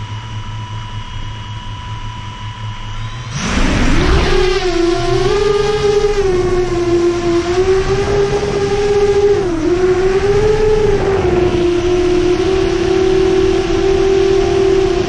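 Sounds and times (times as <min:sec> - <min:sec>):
drone motors whining: 0:00.9 - 0:15.0.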